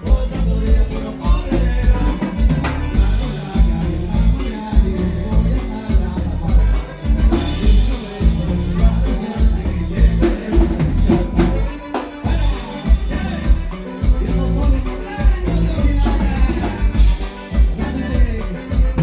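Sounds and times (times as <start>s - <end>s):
bass and drum beat: 0.0s - 19.0s
live band music: 0.0s - 19.0s.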